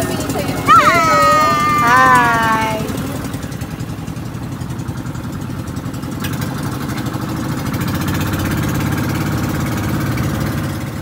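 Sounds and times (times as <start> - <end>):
boat engine running steadily: 0.0 - 11.0.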